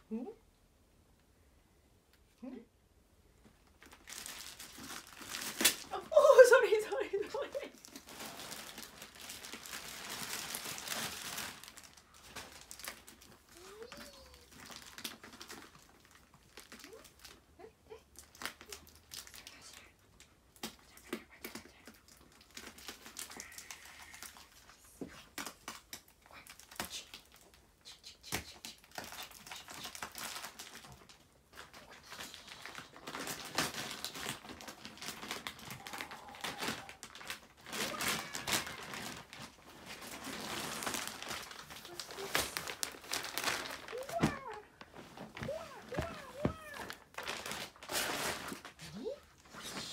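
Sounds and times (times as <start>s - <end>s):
plastic wrapping crinkling: 3.5s - 17.4s, 18.2s - 27.6s, 28.8s - 49.6s.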